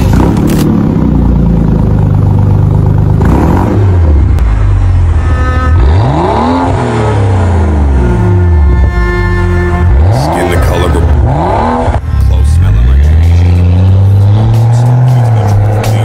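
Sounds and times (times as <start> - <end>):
car engine running and revving: 0.0 - 16.0.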